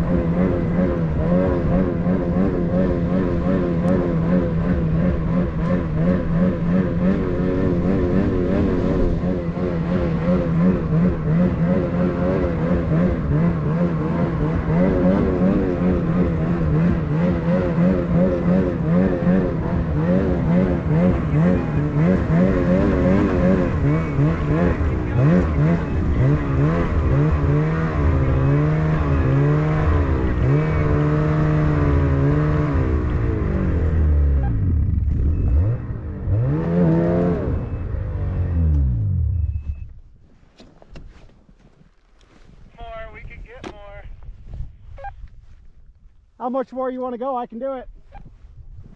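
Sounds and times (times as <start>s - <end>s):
small gasoline engine revving: 0.0s - 39.4s.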